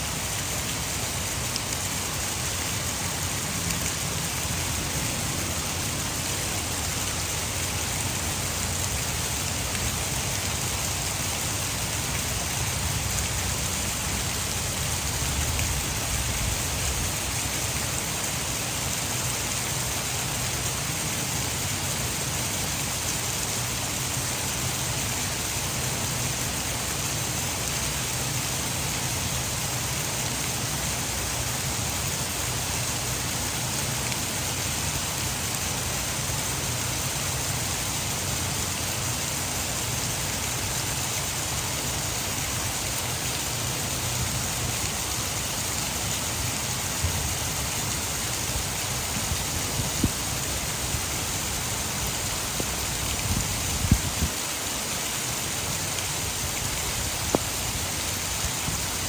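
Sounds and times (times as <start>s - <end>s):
heavy rain falling: 0.0s - 59.0s
water pouring over a dam: 0.0s - 59.0s.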